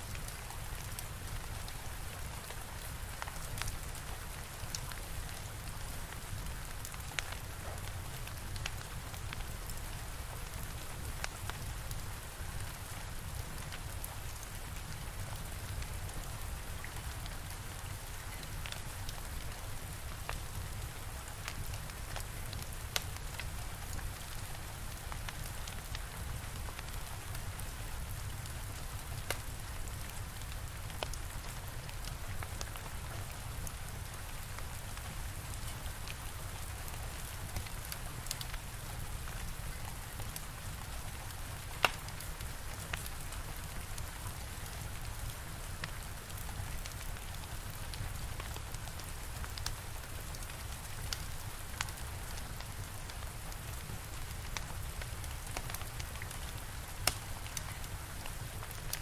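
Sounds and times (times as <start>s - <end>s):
steady rain: 0.0s - 59.0s
wood fire crackling and popping: 0.1s - 59.0s.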